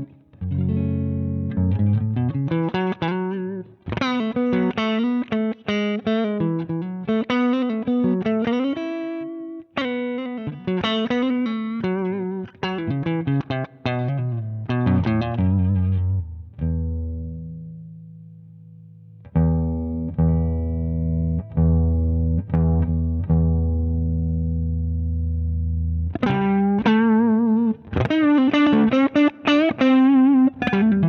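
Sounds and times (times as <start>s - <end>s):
overdriven electric guitar riff: 0.0s - 31.0s.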